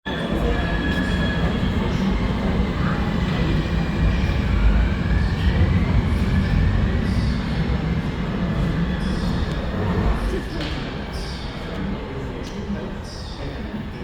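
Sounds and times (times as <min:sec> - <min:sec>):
subway train low rumble: 0:00.0 - 0:14.0.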